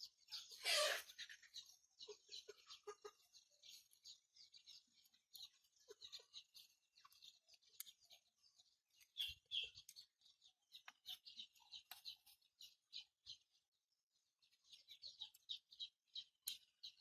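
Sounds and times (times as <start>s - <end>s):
faint high chirps: 0.0s - 17.0s.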